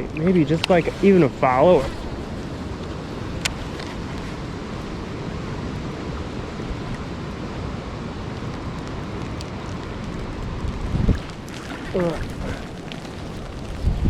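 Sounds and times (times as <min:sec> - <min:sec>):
flowing river water: 0:00.0 - 0:14.0
wind on microphone: 0:00.0 - 0:14.0.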